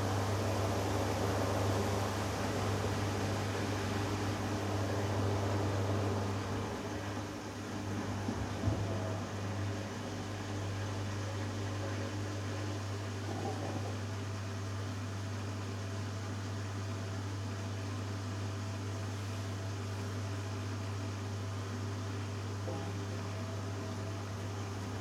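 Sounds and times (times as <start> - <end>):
washing machine spinning: 0.0 - 25.0.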